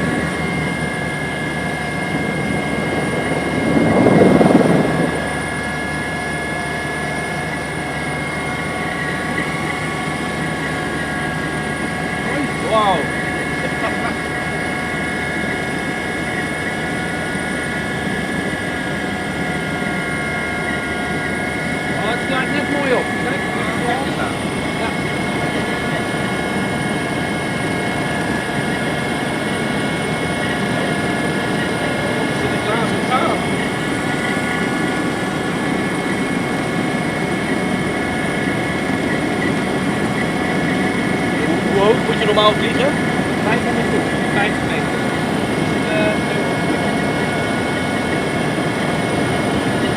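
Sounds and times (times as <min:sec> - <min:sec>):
helicopter rotor and engine noise: 0:00.0 - 0:49.9
high whining tones: 0:00.0 - 0:49.9.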